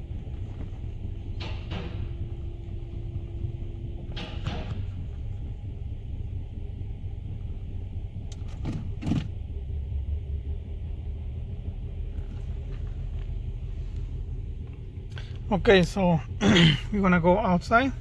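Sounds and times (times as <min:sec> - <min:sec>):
car engine idling rough: 0:00.0 - 0:18.0.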